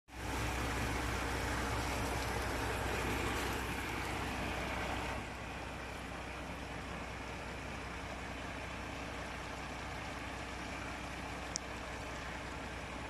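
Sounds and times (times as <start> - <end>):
truck engine drone: 0.1 - 13.0
tyre and road noise: 0.1 - 13.0.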